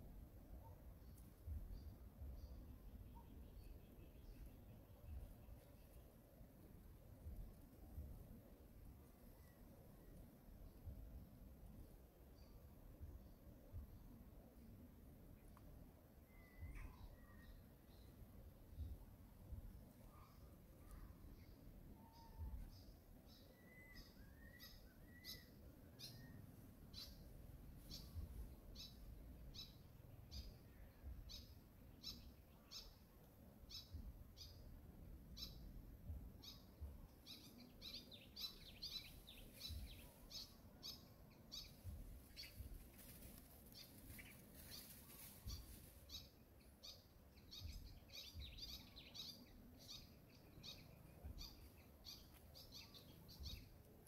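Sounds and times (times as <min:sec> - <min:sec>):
faint bird chirping: 0:00.0 - 0:54.0.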